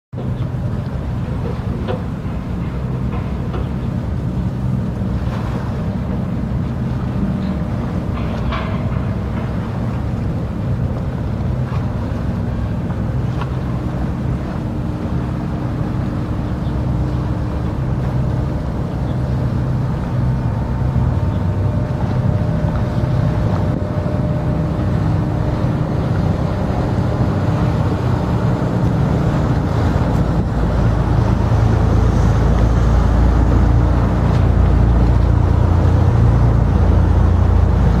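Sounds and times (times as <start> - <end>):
wind rumbling on microphone: 0.1 - 38.0
ship engine drone: 0.2 - 38.0.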